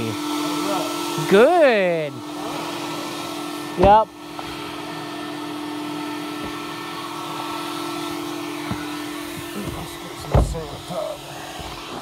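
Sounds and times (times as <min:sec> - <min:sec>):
vacuum motor hum with rushing air: 0:00.0 - 0:12.0.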